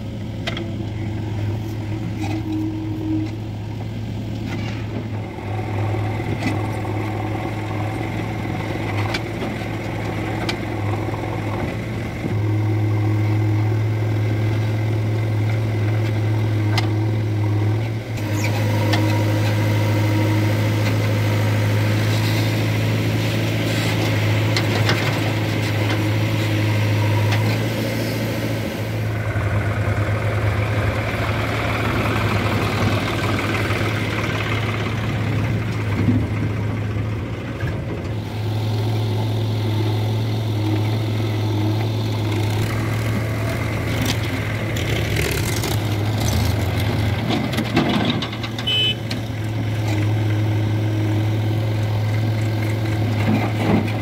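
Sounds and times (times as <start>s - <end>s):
diesel tractor engines idling: 0.0s - 54.0s.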